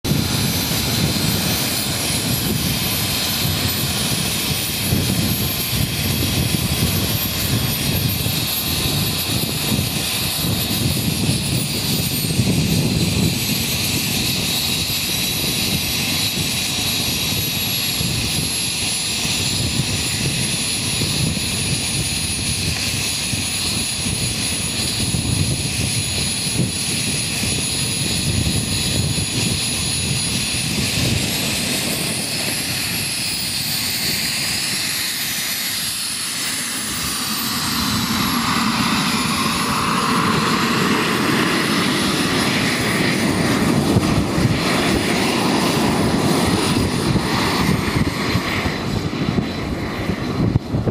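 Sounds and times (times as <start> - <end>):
model jet turbines whining: 0.0 - 50.9.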